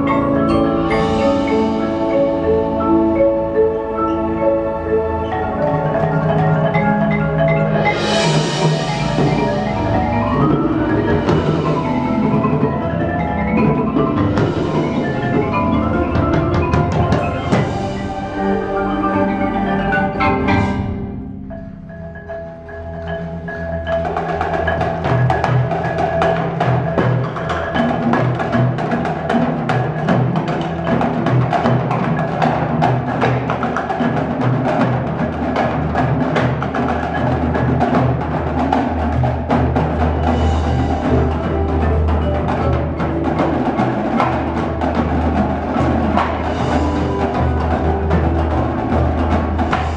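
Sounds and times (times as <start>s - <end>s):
drums: 0.0s - 49.9s
marimbas and mallet percussion: 0.0s - 49.9s.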